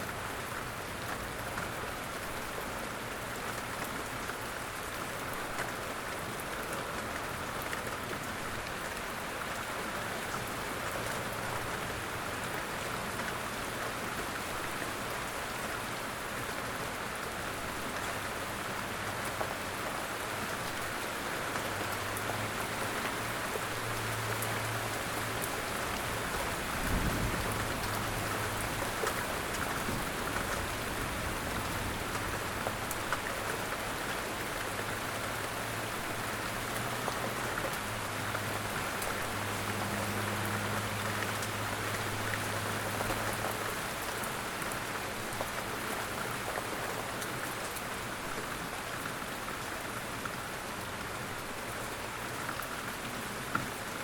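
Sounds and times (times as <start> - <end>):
light rain falling: 0.0 - 54.0.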